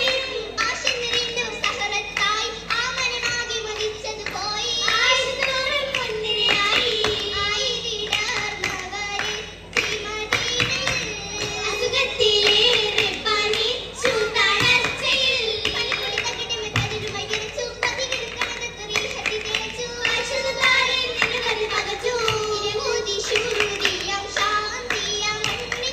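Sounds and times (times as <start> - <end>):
girls singing together: 0.0 - 25.9
rhythmic hand clapping: 0.0 - 25.9.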